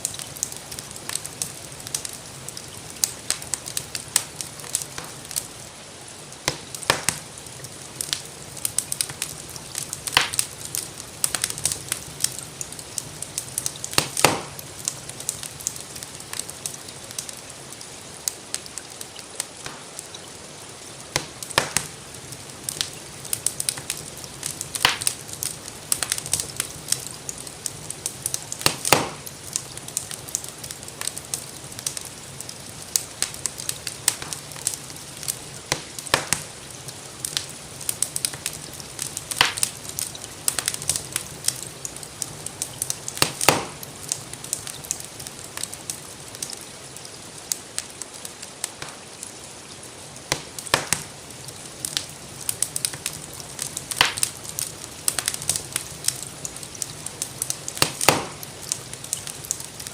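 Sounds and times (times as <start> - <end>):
soft hiss of rain: 0.0 - 59.9
wood fire crackling and popping: 0.0 - 59.9.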